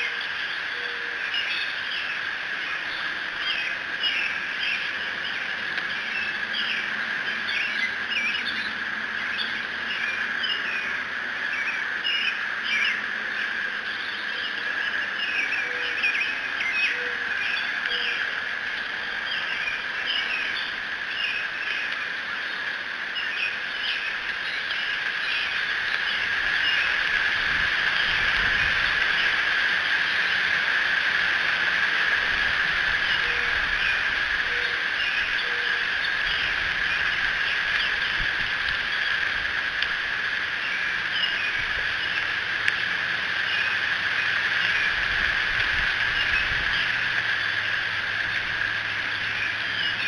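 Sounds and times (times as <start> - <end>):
birds chirping: 0.0 - 50.0
steady high-pitched hum: 0.0 - 50.0.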